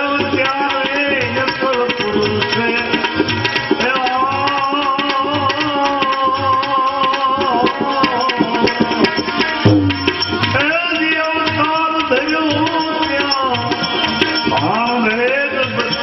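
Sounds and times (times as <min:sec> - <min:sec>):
hand drum rhythm: 0:00.0 - 0:14.8.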